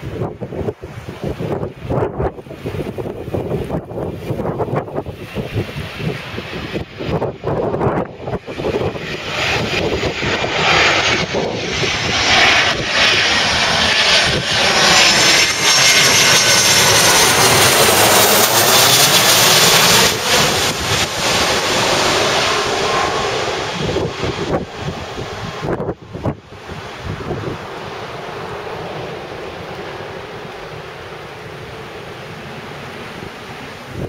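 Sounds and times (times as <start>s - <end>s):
airliner passing low overhead: 0.0s - 34.0s.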